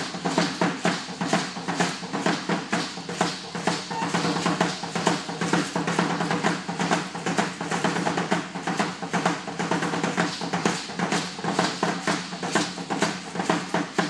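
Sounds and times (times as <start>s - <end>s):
drum beating: 0.0s - 14.0s.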